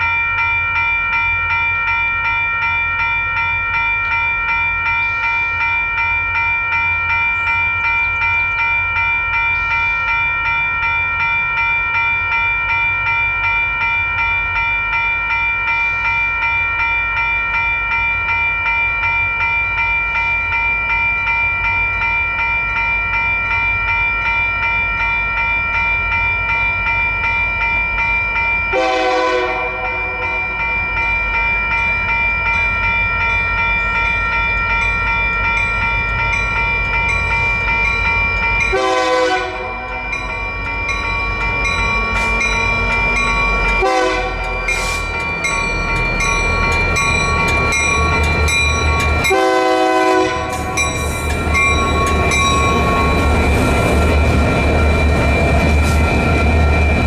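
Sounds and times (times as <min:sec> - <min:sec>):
electronic crossing bells ringing: 0:00.0 - 0:57.0
passing train rumble: 0:00.0 - 0:57.0.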